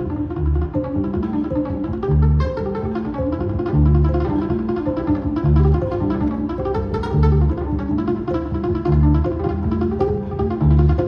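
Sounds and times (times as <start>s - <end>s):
upright bass: 0.0s - 11.0s.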